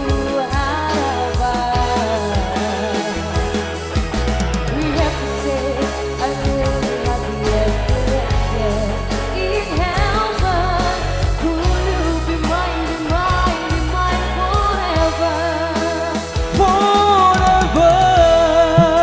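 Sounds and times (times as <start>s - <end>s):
band accompaniment: 0.0s - 19.0s
bass line: 0.0s - 19.0s
person singing with vibrato: 0.0s - 19.0s.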